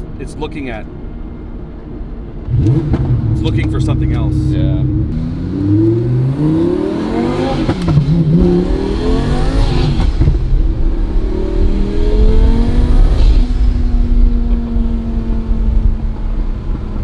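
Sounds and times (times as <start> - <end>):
car engine accelerating hard: 2.4 - 17.0.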